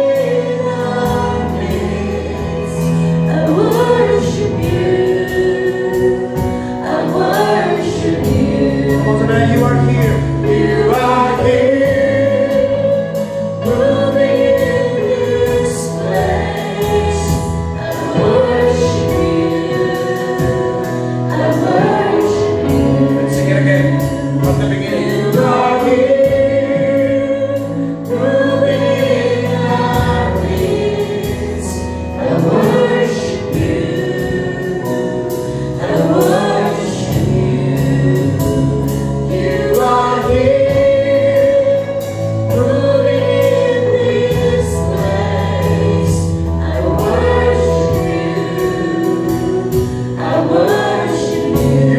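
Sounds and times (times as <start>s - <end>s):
group singing gospel song: 0.0s - 51.9s
instrumental accompaniment with beat: 0.0s - 51.9s.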